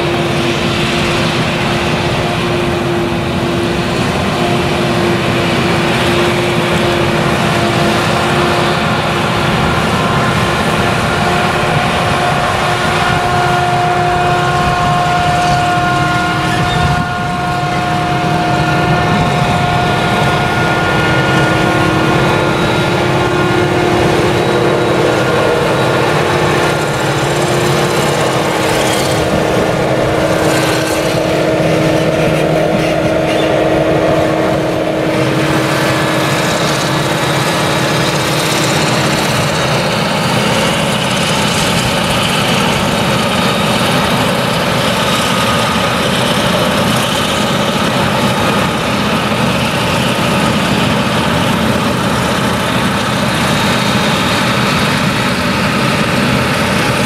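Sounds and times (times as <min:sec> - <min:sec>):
harvester engine running under load: 0:00.0 - 0:57.0
steady whine: 0:00.0 - 0:57.0
tractor running: 0:00.0 - 0:57.0.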